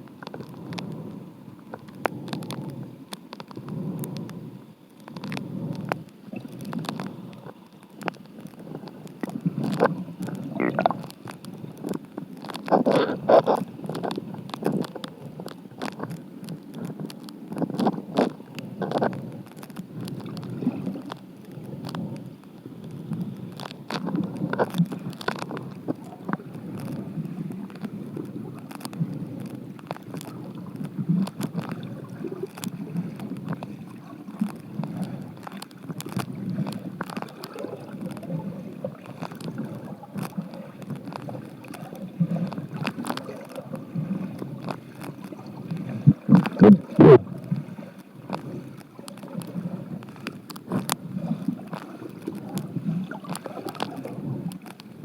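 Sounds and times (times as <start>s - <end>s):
muffled underwater stream rushing: 0.0s - 55.0s
small clicks: 0.0s - 55.0s.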